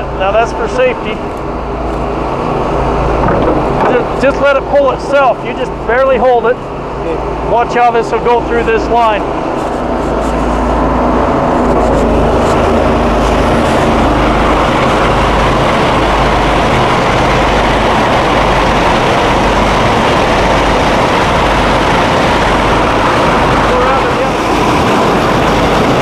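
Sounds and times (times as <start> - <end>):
engine drone: 0.0 - 26.0.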